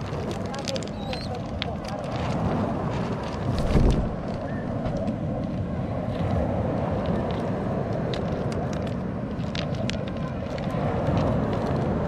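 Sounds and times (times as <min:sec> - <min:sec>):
pigeons pecking on pebbles: 0:00.0 - 0:12.0
steady low rumble: 0:00.0 - 0:12.0.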